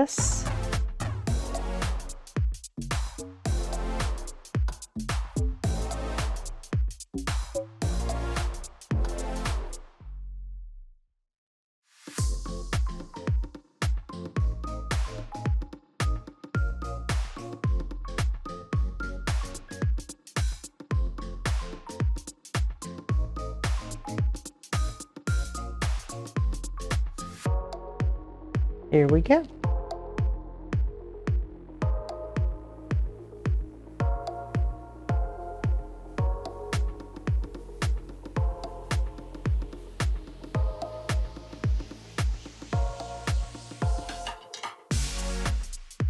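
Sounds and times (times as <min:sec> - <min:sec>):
electronic music: 0:00.0 - 0:09.9, 0:12.2 - 0:46.0
deep kick drum hits: 0:00.2 - 0:09.7, 0:12.2 - 0:19.4, 0:23.1 - 0:23.8, 0:24.8 - 0:44.1, 0:44.9 - 0:45.7.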